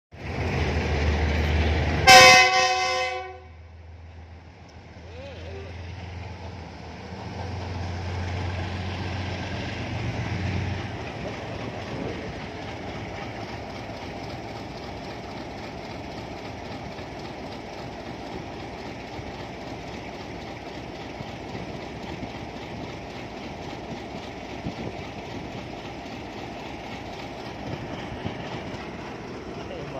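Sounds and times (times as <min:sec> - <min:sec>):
rail yard rumble: 0:00.1 - 0:29.9
locomotive engine drone: 0:00.2 - 0:29.9.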